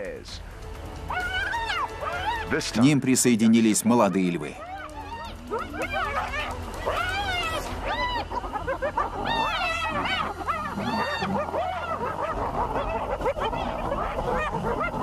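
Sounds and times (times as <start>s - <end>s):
hyenas squealing and yelping: 0.7s - 15.0s.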